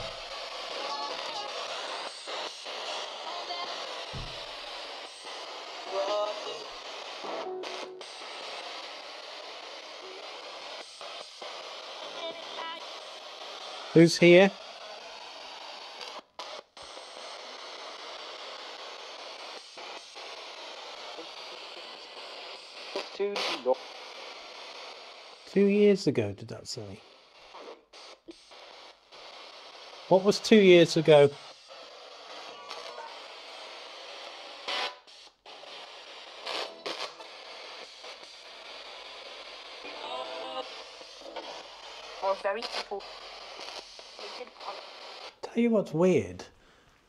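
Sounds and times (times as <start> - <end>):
bursts of radio noise: 0.0 - 46.6
radio static hiss: 0.0 - 46.6.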